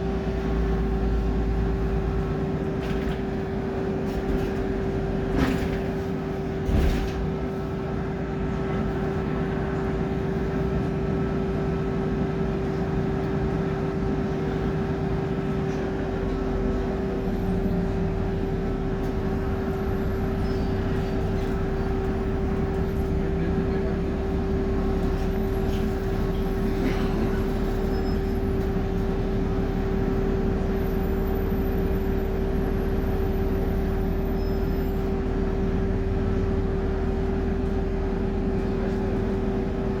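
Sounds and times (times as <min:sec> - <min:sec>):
bus diesel engine running: 0:00.0 - 0:40.0.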